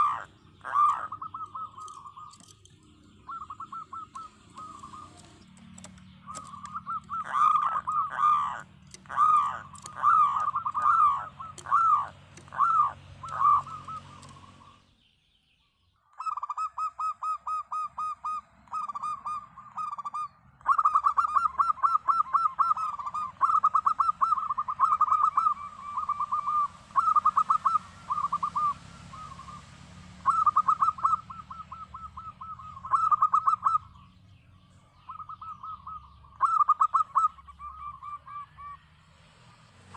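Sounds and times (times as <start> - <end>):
dove cooing: 0.0 - 14.8, 16.2 - 34.1, 35.0 - 38.9.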